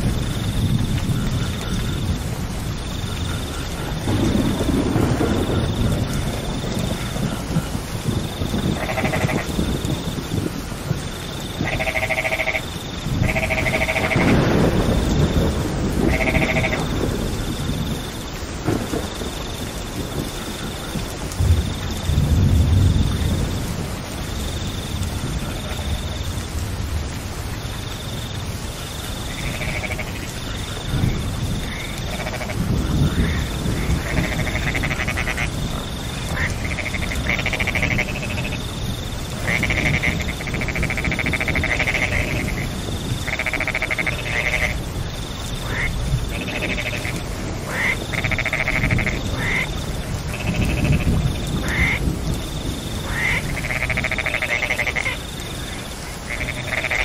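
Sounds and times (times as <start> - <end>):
frogs calling: 0.0 - 26.5, 27.1 - 57.0
steady rain falling: 0.0 - 57.0.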